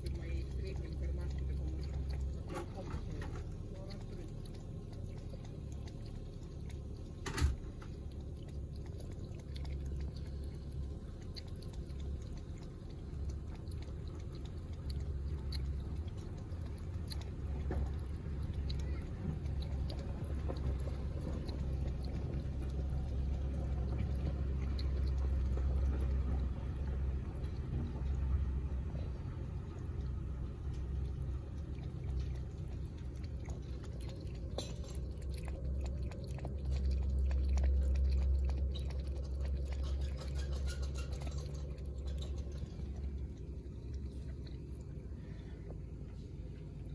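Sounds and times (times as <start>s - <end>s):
kitten lapping water: 0.0s - 46.9s
low steady rumble: 0.0s - 46.9s.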